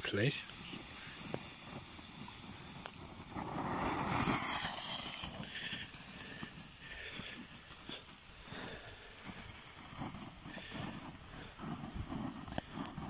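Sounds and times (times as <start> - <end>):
firework crackles: 0.0 - 13.0
fireworks fizzing sparks: 0.0 - 13.0.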